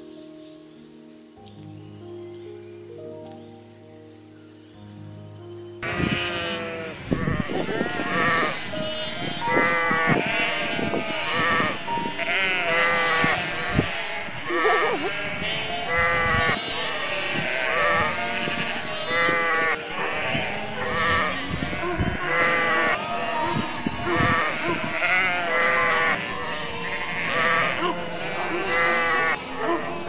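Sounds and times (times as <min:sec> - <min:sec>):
sheep bleating: 0:05.8 - 0:30.0.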